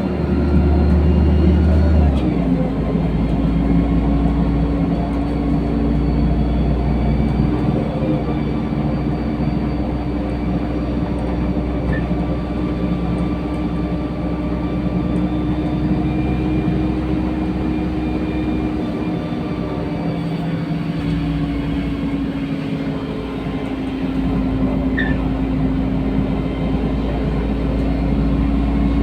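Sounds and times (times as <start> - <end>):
bus engine drone: 0.0 - 29.0
road rumble: 0.0 - 29.0.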